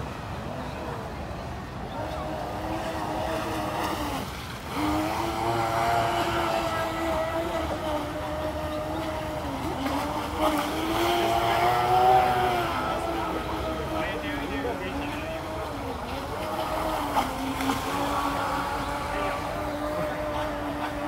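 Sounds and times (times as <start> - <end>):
model boat motor whining: 0.0 - 21.0.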